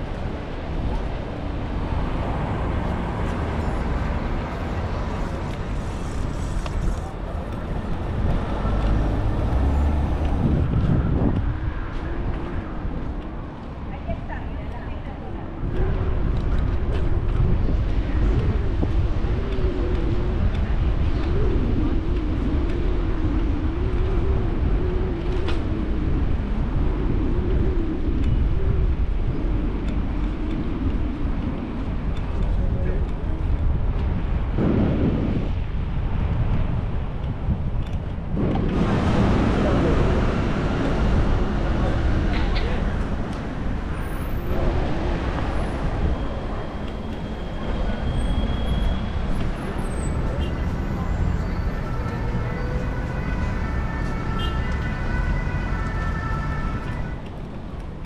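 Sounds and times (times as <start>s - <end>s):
bicycle road noise on asphalt: 0.0s - 58.0s
faint street sounds: 0.0s - 58.0s
wind rumbling on microphone: 0.0s - 58.0s.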